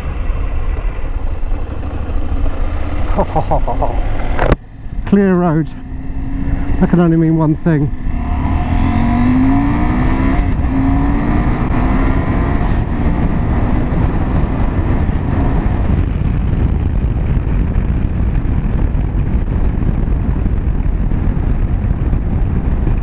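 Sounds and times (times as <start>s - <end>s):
motorcycle engine accelerating: 0.0s - 23.0s
wind and road noise: 0.0s - 23.0s.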